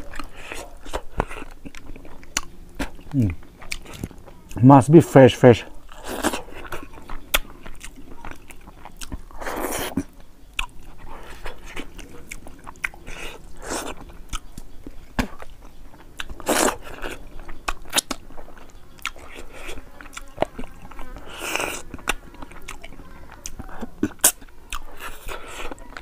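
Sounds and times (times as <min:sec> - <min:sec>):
person chewing and lip-smacking: 0:00.0 - 0:04.6, 0:05.9 - 0:26.0.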